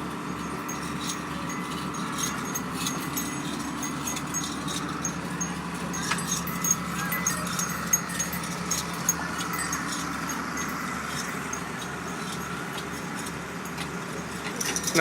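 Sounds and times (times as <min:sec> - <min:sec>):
steady hum: 0:00.0 - 0:14.8
small high chimes tinkling: 0:00.0 - 0:15.0.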